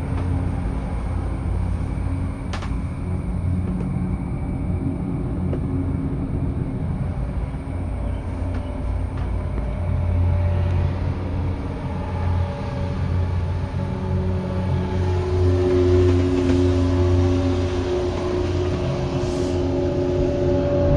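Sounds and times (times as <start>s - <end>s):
gondola cabin rumble and hum: 0.0s - 20.9s.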